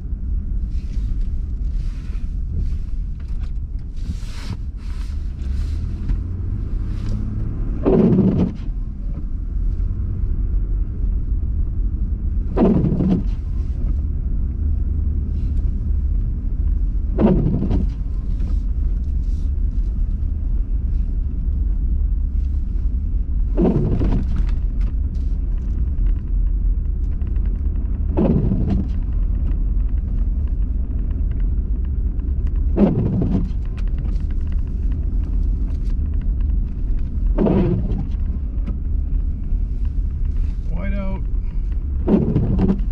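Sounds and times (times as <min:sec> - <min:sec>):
car engine and tyres rumbling: 0:00.0 - 0:42.9
windshield wipers swishing: 0:00.7 - 0:09.9, 0:12.3 - 0:42.9.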